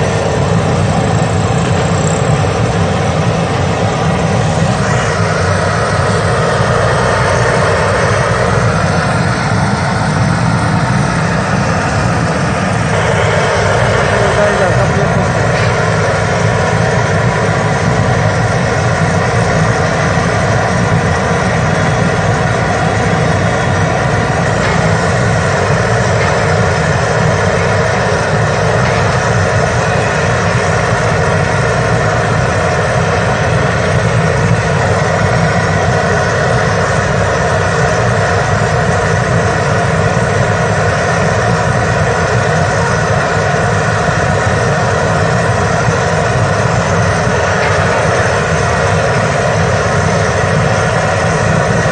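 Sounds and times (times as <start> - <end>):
loud low rumble: 0.0 - 51.9.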